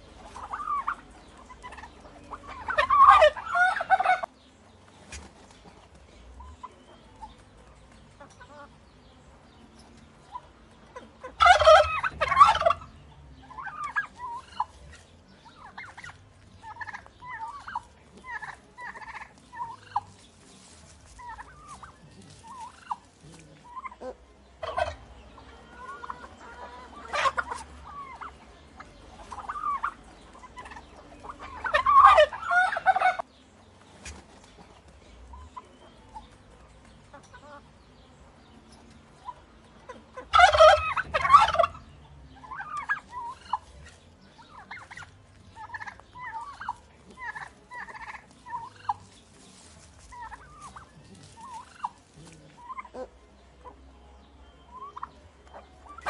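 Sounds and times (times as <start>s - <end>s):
soft turkey calls: 0.0s - 8.8s, 9.8s - 37.8s, 38.6s - 56.0s
turkeys gobbling: 0.0s - 8.8s, 9.8s - 37.7s, 38.6s - 56.0s.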